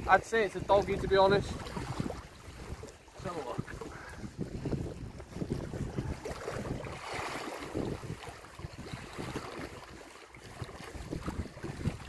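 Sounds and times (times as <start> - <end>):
sea waves washing on shore: 0.0 - 12.0
wind buffeting microphone: 0.0 - 12.0.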